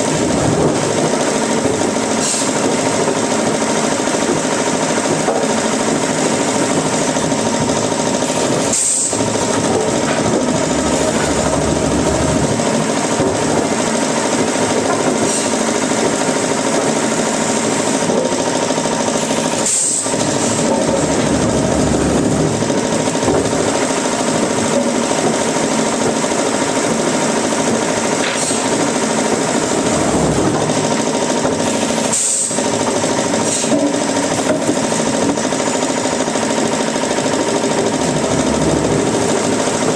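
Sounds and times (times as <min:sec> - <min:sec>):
wood-processing machinery rattling: 0:00.0 - 0:39.9.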